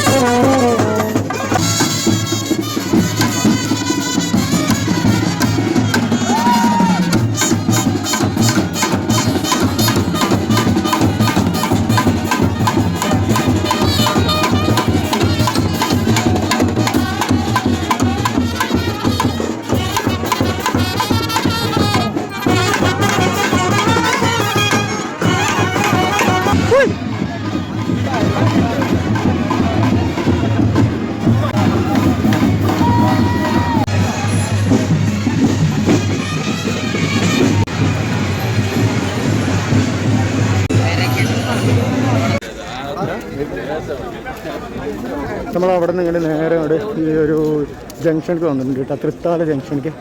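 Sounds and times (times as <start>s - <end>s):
fast steady drumming: 0.0s - 41.7s.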